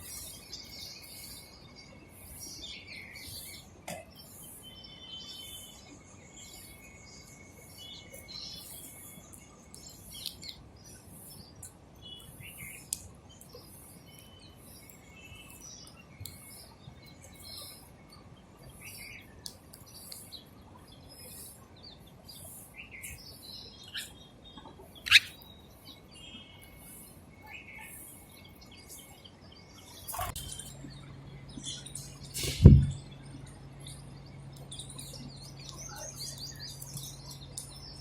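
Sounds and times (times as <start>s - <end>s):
sparrows chirping: 0.0s - 38.0s.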